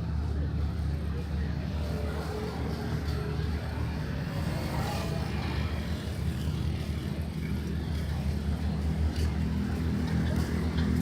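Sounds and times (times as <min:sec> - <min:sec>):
faint voices: 0:00.0 - 0:11.0
low rumble of traffic: 0:00.0 - 0:11.0.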